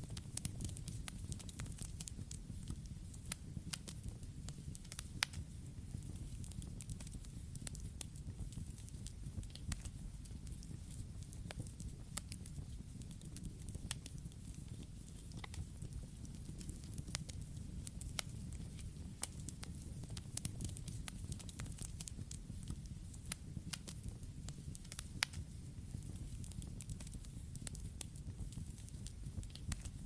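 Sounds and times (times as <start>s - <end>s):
burning wood crackling and popping: 0.0s - 30.0s.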